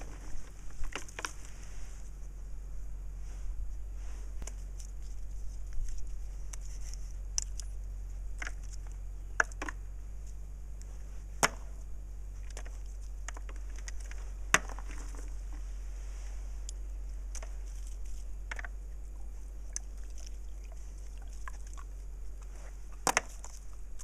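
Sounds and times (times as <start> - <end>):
dry leaves rustling: 0.0 - 9.3, 10.0 - 24.0.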